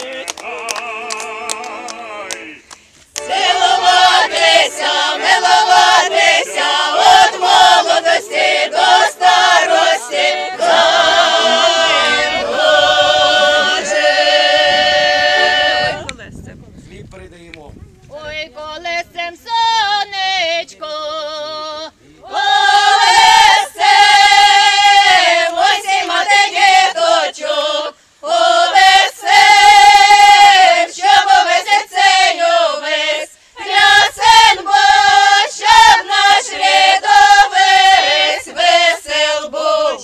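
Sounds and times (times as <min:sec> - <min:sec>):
choir singing: 0:00.0 - 0:16.1, 0:18.8 - 0:40.0.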